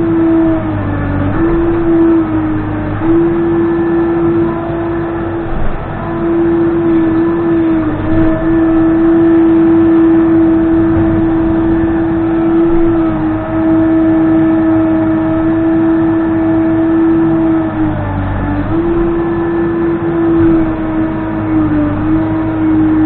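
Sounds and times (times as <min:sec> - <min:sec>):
diesel engine revving high: 0:00.0 - 0:23.0.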